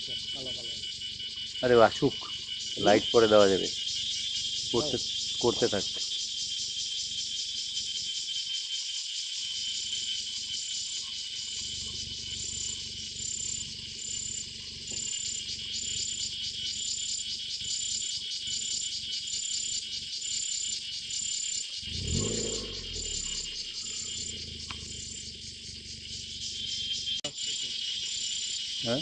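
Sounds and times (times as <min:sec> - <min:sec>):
night insects trilling: 0:00.0 - 0:29.0.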